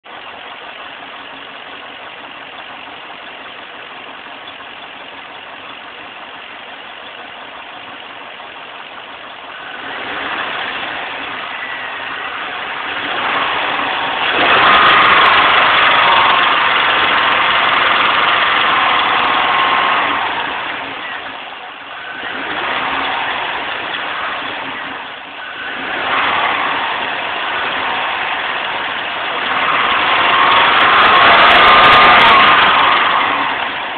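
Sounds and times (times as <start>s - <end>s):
car engine running: 0.0s - 33.9s
engine rattle or tapping: 0.0s - 33.9s.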